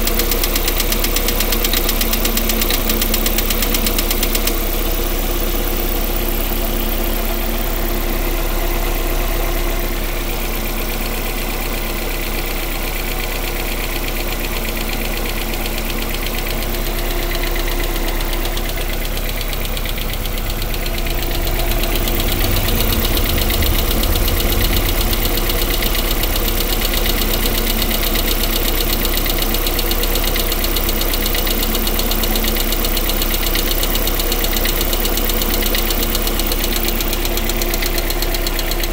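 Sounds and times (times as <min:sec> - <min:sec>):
engine running with rapid knock: 0:00.0 - 0:38.9.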